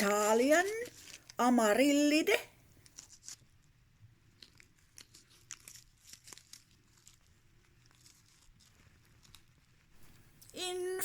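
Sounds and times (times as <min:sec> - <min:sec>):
faint crackles and clicks: 0:00.0 - 0:01.4, 0:02.8 - 0:11.0.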